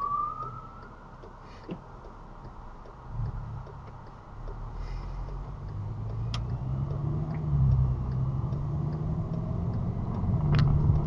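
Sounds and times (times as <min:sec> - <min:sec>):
car engine accelerating: 0:00.0 - 0:11.0
sharp clicks: 0:00.0 - 0:11.0.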